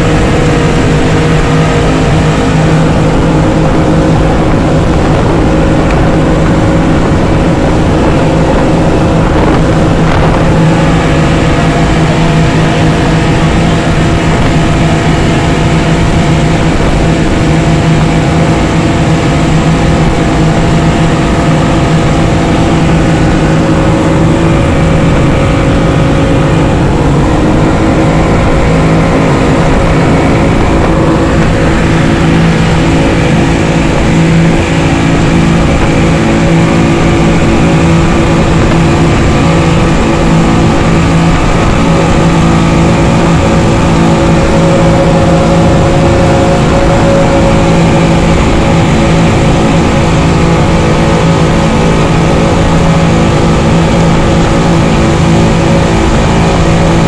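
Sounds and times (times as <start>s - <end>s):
boat engine humming: 0.0s - 57.0s
wind and water rushing: 0.0s - 57.0s.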